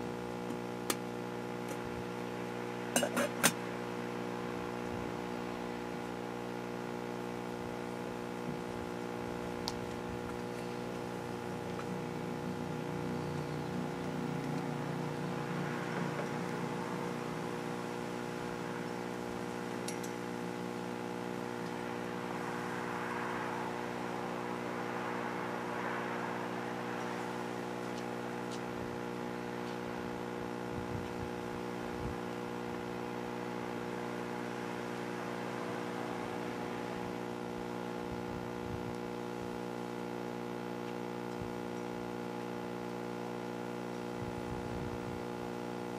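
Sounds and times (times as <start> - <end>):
electrical hum with buzzing overtones: 0.0 - 45.9.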